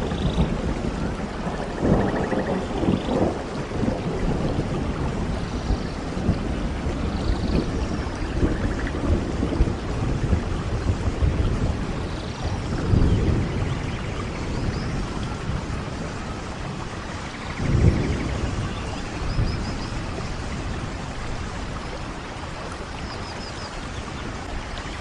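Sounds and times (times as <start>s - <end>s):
low rumble of thunder: 0.0s - 25.0s
steady rain falling: 0.0s - 25.0s.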